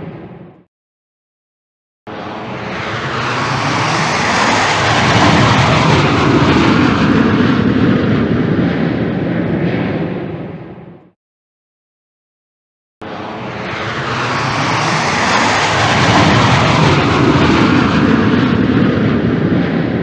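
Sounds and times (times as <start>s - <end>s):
jet aircraft passing by: 2.1s - 11.2s, 13.0s - 20.0s.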